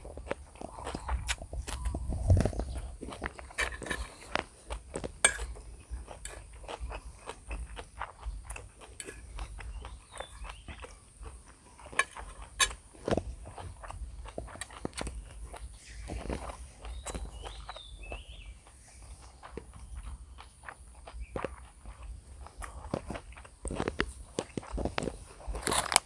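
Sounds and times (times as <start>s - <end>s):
chewing noodles: 0.0s - 26.0s.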